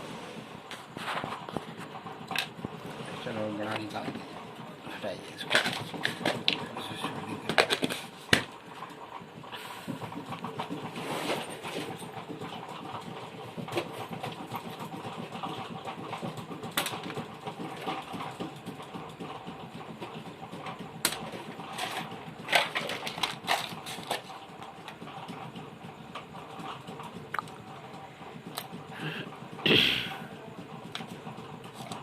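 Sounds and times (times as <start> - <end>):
rattling mechanical hum: 0.0 - 32.0.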